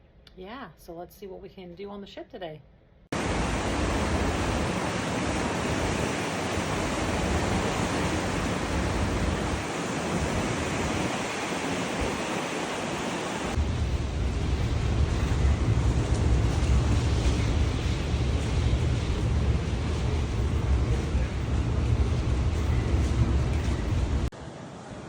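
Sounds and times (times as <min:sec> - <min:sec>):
wind blowing on microphone: 0:03.2 - 0:24.3.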